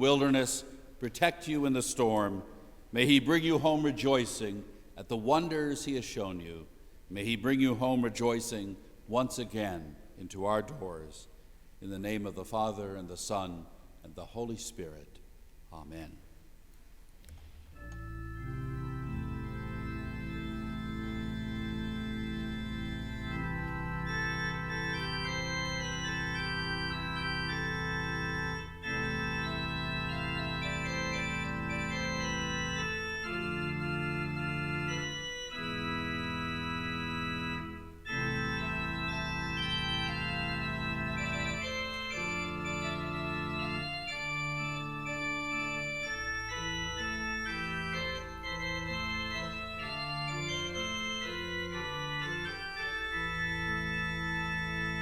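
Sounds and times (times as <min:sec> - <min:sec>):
organ music: 0:00.0 - 0:16.2, 0:17.6 - 0:55.0.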